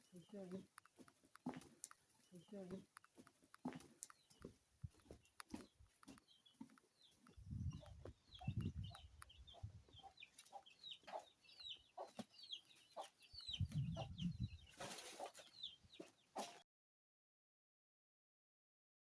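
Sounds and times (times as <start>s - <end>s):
chickens peeping and clucking: 0.0s - 16.6s.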